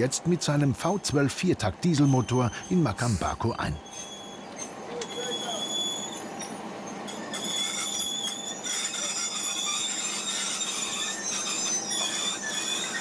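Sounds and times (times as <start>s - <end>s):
train wheels squealing: 1.1s - 13.0s.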